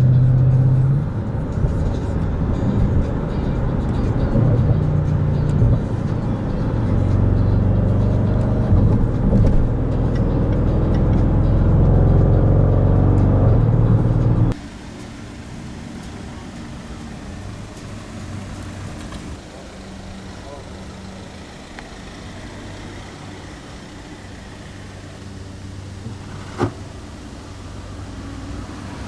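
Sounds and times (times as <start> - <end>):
car exhaust revving with crackles: 0.0 - 29.0
low engine rumble: 0.0 - 29.0.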